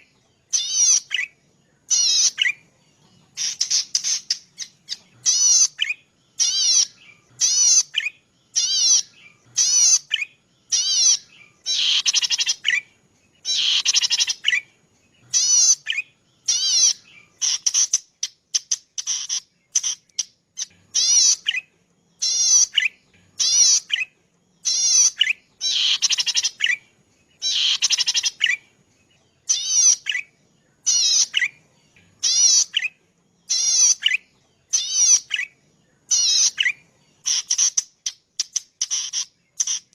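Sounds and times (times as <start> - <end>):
small bird singing trilled phrases: 0.0 - 39.9.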